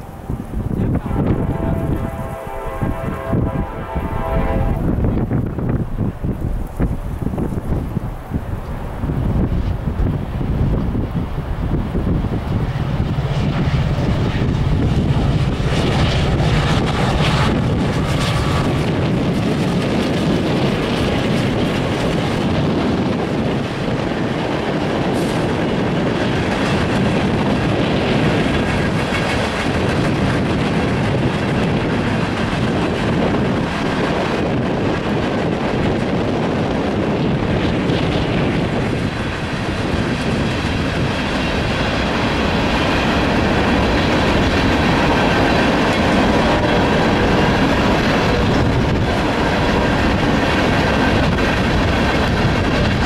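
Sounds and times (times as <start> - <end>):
diesel locomotive engine hum: 0.0 - 53.0
train wheels rumbling on rail: 0.0 - 53.0.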